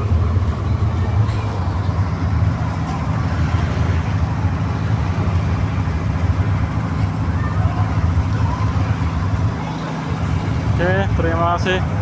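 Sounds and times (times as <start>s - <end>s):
engine running with low rumble: 0.0s - 12.0s.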